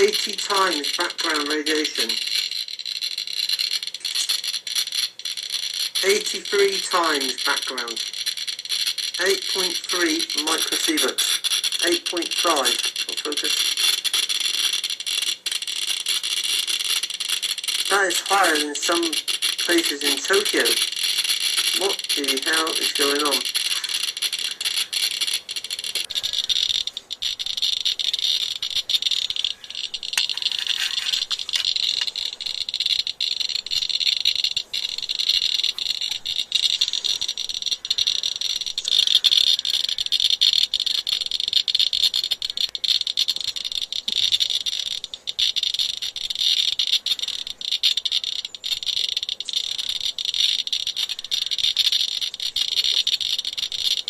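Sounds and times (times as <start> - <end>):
geiger counter crackling: 0.0 - 54.0.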